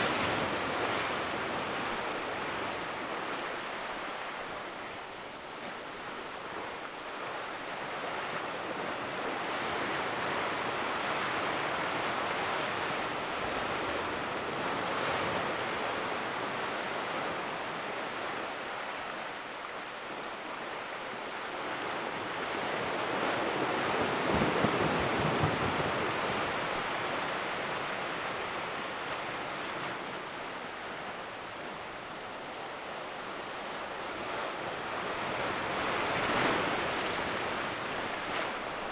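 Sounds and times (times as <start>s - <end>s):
sea waves on shore: 0.0s - 38.9s.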